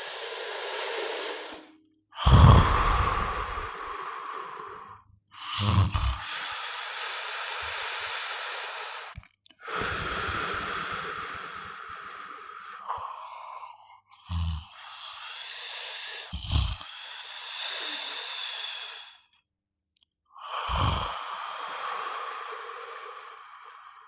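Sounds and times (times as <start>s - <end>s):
person snoring: 0.0s - 19.2s, 20.4s - 24.0s.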